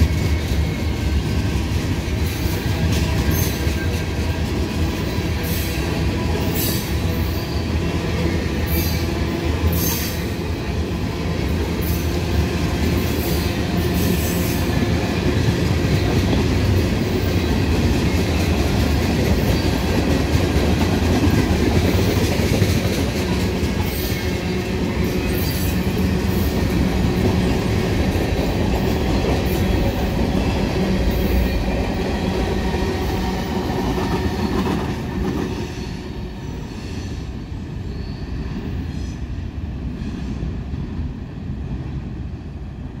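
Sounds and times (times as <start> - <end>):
freight train rumbling by: 0.0 - 43.0.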